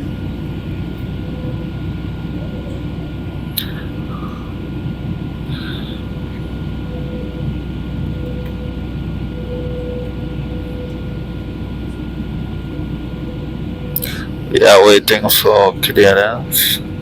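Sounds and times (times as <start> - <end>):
airliner cabin engine drone: 0.0 - 17.0
faint steady whine: 0.0 - 17.0.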